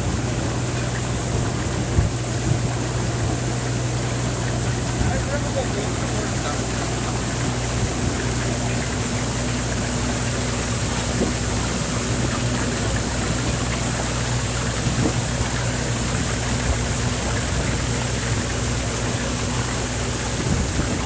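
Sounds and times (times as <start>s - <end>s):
spray water rushing: 0.0s - 21.0s.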